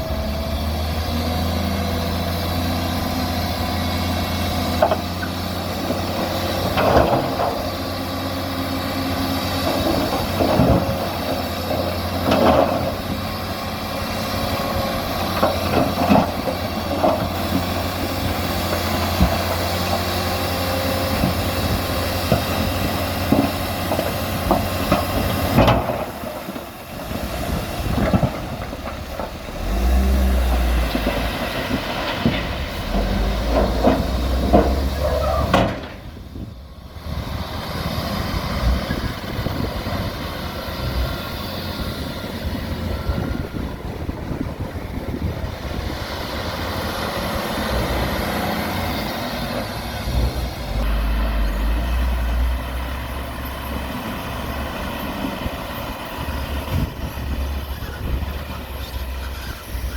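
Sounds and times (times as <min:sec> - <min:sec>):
diesel engine rumble: 0:00.0 - 0:59.9.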